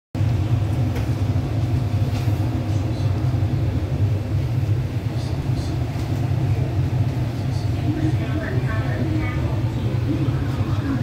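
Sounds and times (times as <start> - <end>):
train low rumble: 0.2 - 11.0.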